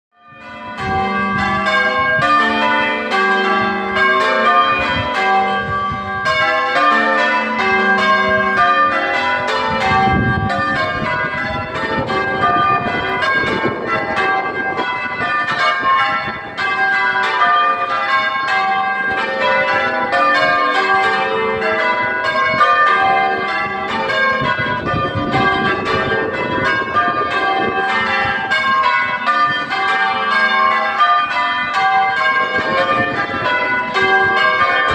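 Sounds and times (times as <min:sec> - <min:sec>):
church bells ringing in changes: 0:00.2 - 0:34.9.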